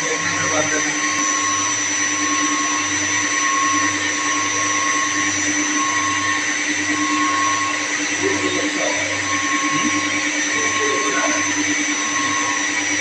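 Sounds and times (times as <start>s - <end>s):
machinery motor hum with high whine: 0.0s - 13.0s.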